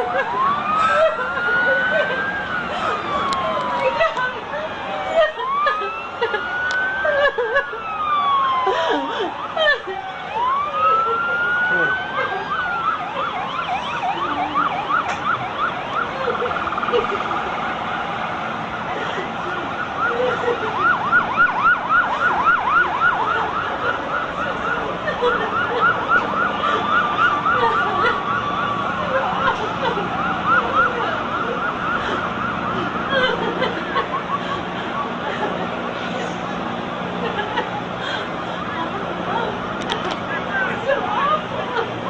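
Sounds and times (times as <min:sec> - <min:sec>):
emergency sirens yelping: 0:00.0 - 0:42.0
siren wail sliding down: 0:00.0 - 0:42.0.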